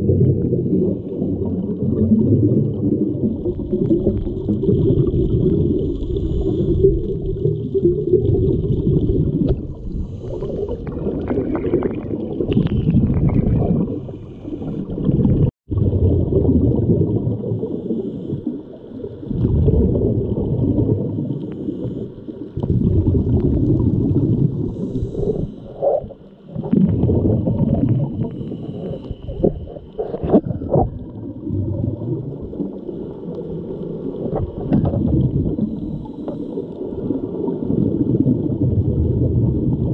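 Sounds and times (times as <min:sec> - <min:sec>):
underwater rumble and gurgling: 0:00.0 - 0:39.9.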